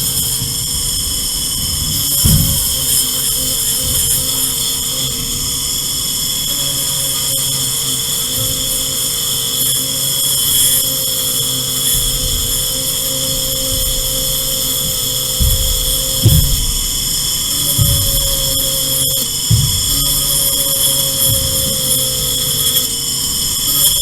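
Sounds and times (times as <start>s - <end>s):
motor running with high whine: 0.0s - 24.0s.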